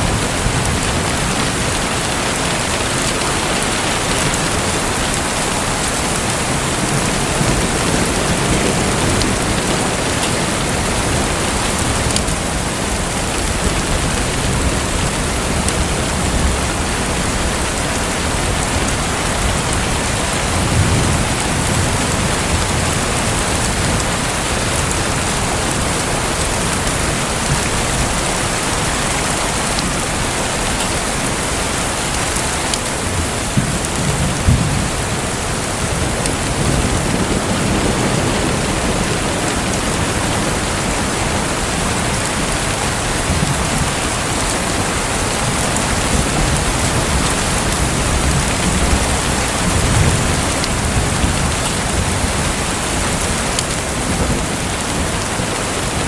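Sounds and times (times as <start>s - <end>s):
water rushing and splashing: 0.0s - 56.0s.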